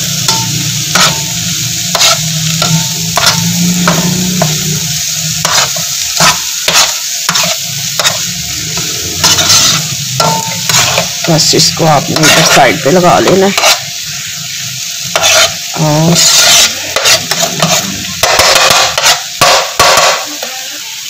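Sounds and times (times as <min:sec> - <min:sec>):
food sizzling in oil: 0:00.0 - 0:21.0
spatula scraping frying pan: 0:00.1 - 0:20.7.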